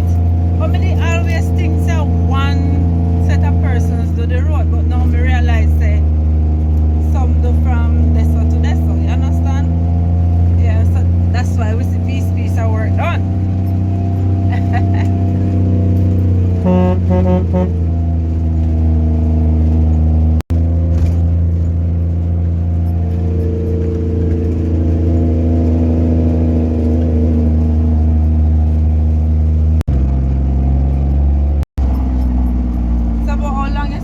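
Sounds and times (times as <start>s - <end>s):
truck engine droning: 0.0s - 34.0s.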